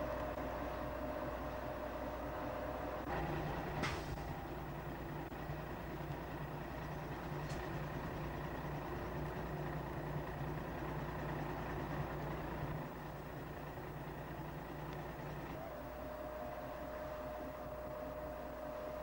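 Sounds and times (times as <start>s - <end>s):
truck engine running steadily: 0.0s - 19.0s.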